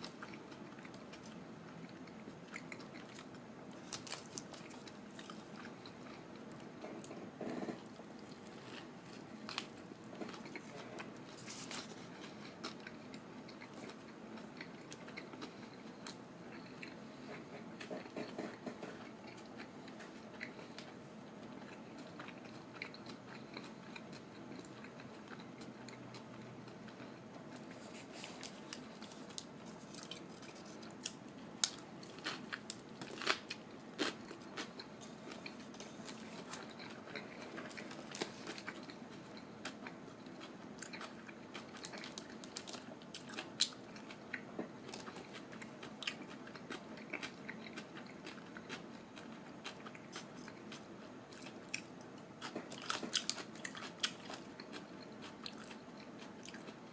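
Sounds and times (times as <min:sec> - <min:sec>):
chewing and crunching: 0:00.0 - 0:56.9.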